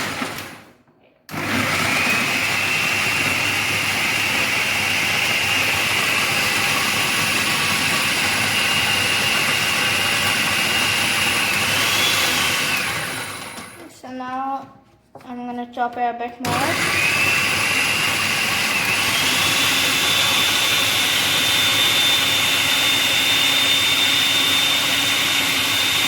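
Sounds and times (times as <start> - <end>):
electric food chopper whining: 0.0 - 0.7, 1.3 - 13.9, 16.4 - 26.0.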